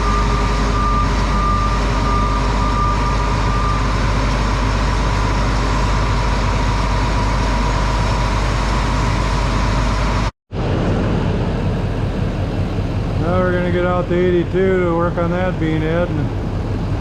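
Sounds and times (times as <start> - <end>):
large vehicle engine running: 0.0 - 17.0.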